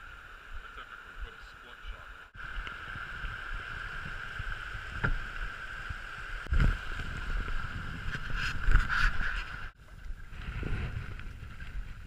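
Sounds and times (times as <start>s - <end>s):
wind buffeting microphone: 2.3s - 12.0s.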